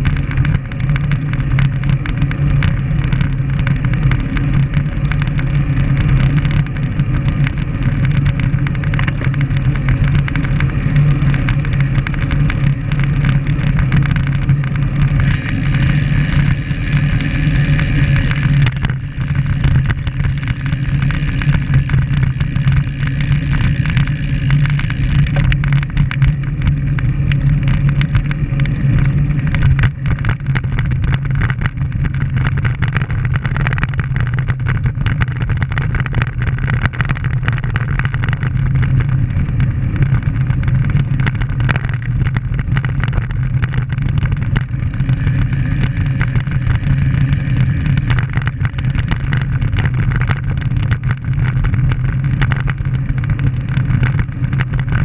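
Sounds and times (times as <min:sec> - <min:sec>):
road rumble: 0:00.0 - 0:55.0
small clicks and knocks: 0:00.0 - 0:55.0
wind buffeting microphone: 0:00.0 - 0:55.0.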